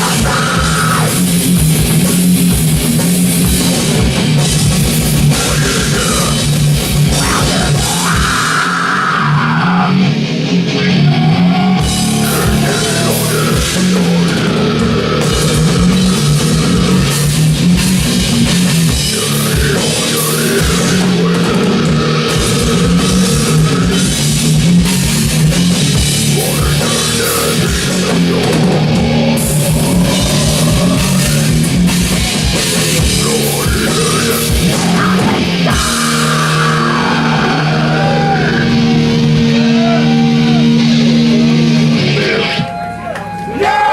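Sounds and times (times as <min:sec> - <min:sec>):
drum kit: 0:00.0 - 0:43.4
electric guitars: 0:00.0 - 0:43.9.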